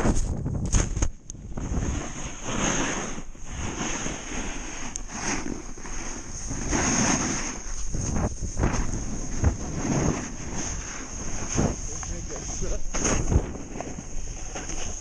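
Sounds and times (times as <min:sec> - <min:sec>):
snowboard sliding over snow: 0:00.0 - 0:15.0
wind rushing over microphone: 0:00.0 - 0:15.0.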